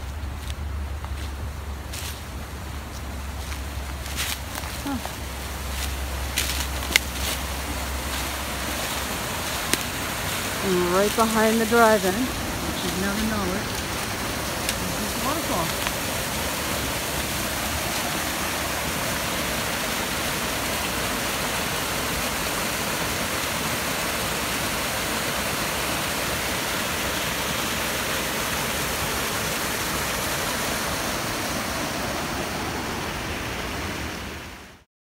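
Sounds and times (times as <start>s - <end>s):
small waterfall rushing: 0.0s - 34.9s.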